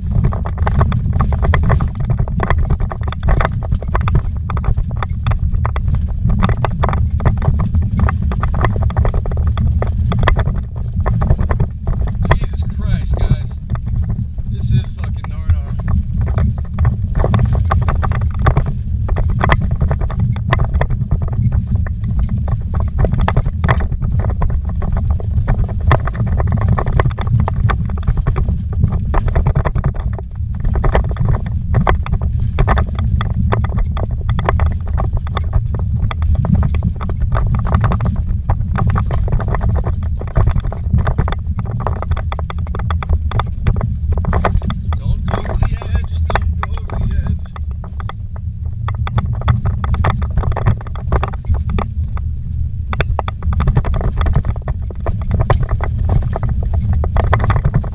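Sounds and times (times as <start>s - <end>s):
sharp knocks and rattles: 0.0s - 57.9s
vehicle rumbling over rocky trail: 0.0s - 57.9s.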